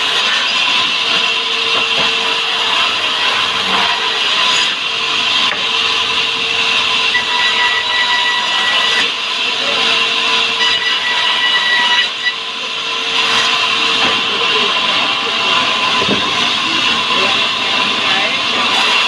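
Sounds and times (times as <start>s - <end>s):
band saw blade cutting log: 0.0s - 19.0s.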